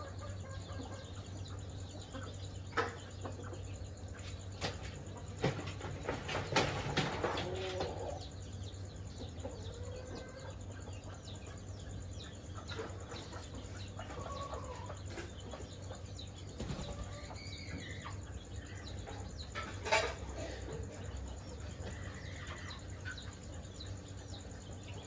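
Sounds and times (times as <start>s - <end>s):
chickens clucking: 0.0s - 25.0s
chicks peeping: 0.0s - 25.0s.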